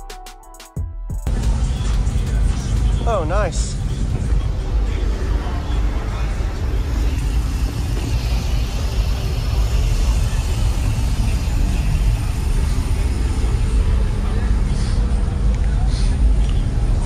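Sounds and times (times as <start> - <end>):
car engine idling: 1.3 - 17.0.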